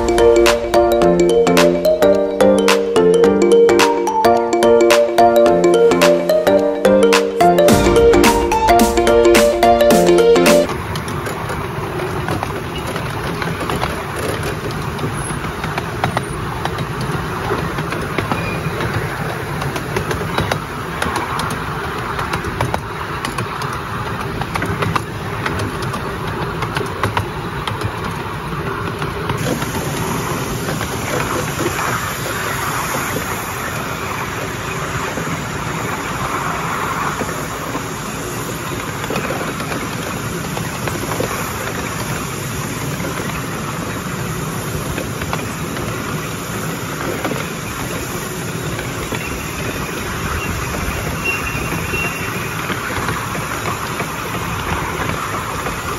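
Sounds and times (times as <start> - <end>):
steam train running on rails: 10.7 - 55.9.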